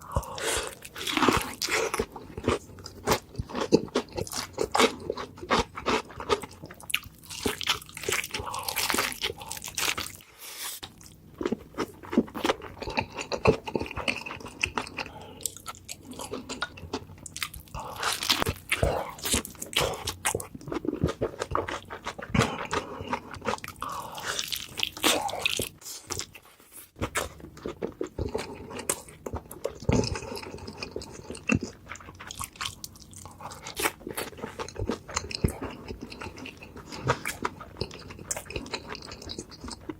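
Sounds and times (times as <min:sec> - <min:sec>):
crunchy chewing of burger: 0:00.0 - 0:10.2, 0:10.8 - 0:39.9.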